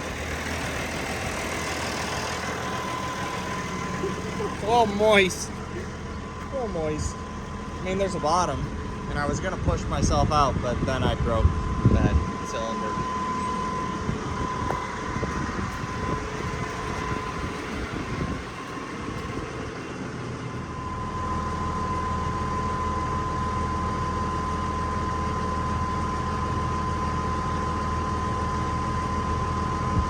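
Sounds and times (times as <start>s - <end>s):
heavy engine rumbling: 0.0s - 30.0s
high whine: 0.0s - 30.0s.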